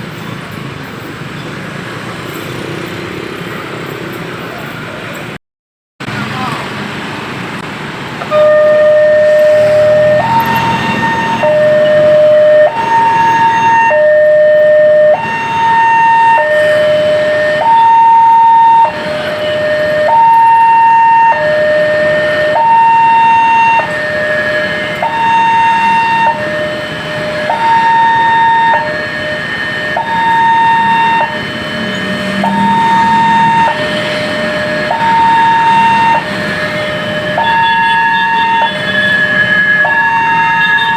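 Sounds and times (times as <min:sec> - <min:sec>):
two-tone warning siren: 0:08.0 - 0:40.9.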